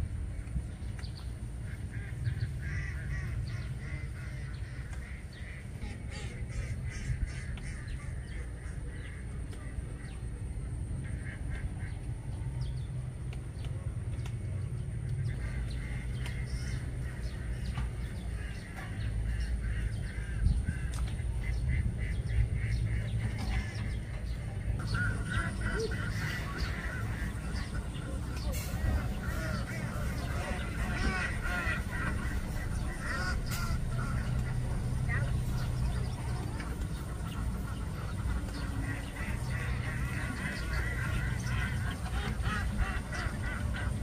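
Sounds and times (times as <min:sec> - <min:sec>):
ducks quacking: 0:00.0 - 0:12.7, 0:14.8 - 0:44.0
steady low rumble: 0:00.0 - 0:44.0.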